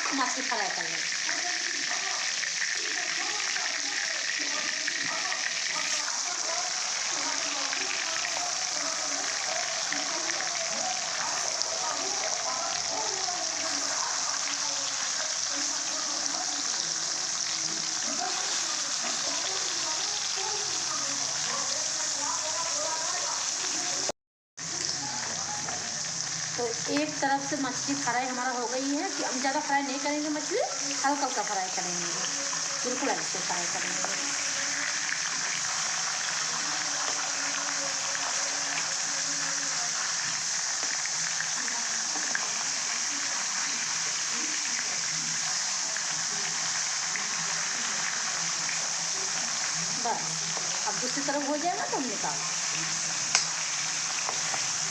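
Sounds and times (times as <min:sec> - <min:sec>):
fish frying in hot oil: 0:00.0 - 0:54.9.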